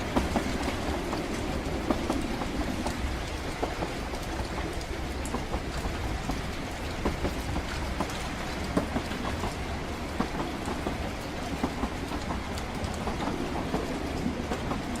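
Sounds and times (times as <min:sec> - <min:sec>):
rain pattering: 0:00.0 - 0:15.0
train carriage rumbling: 0:00.0 - 0:15.0.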